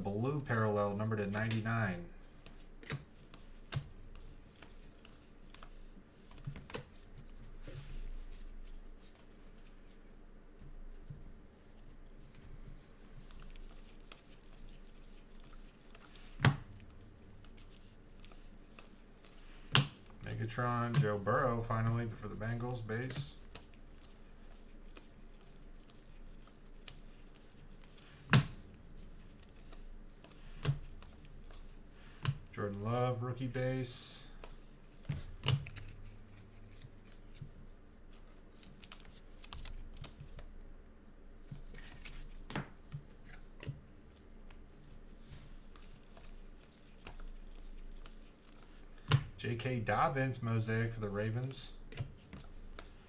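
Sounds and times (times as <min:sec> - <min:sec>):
soft rustle: 0:01.2 - 0:40.5, 0:41.3 - 0:49.1.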